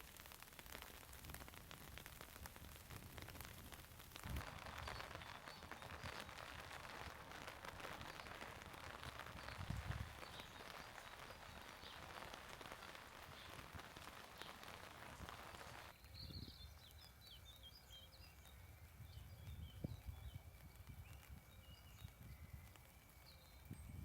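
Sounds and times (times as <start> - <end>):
light rain falling: 0.0 - 24.0
faint birdsong chirps: 4.1 - 24.0.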